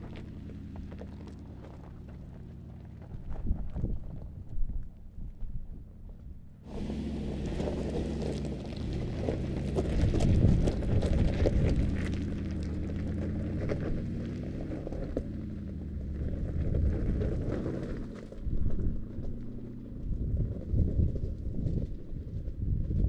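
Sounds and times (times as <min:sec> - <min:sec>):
tyres crunching over gravel: 0:00.0 - 0:05.7, 0:06.7 - 0:22.6
engine running at low revs: 0:00.0 - 0:23.0.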